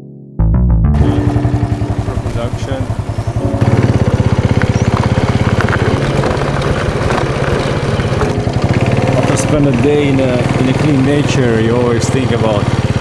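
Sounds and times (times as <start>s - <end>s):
motorcycle engine running: 1.0s - 13.0s.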